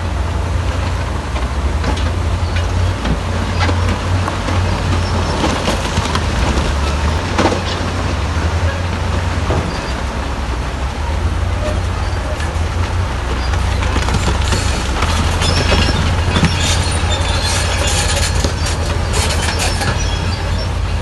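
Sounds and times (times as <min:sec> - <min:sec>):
diesel engine drone: 0:00.0 - 0:21.0
machinery knocks and rattles: 0:00.8 - 0:10.2, 0:11.7 - 0:21.0.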